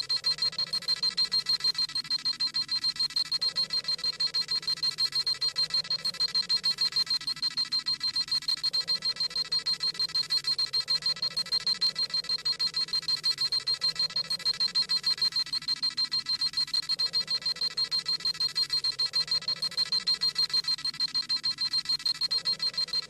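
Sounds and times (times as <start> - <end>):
rapid electronic beeping: 0.0 - 23.0.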